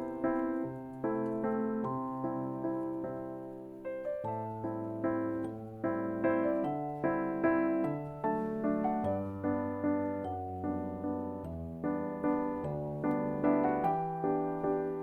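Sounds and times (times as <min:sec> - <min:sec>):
light piano waltz: 0:00.0 - 0:15.0.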